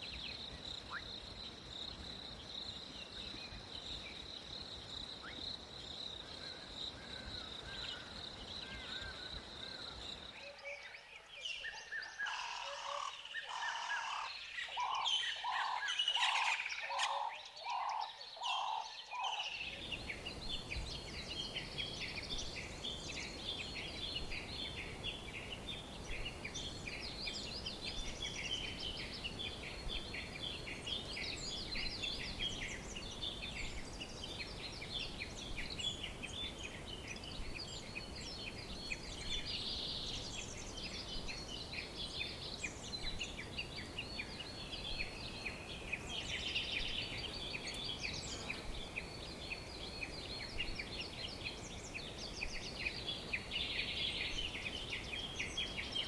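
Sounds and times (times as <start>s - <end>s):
flock of small birds chattering: 0.0s - 56.0s.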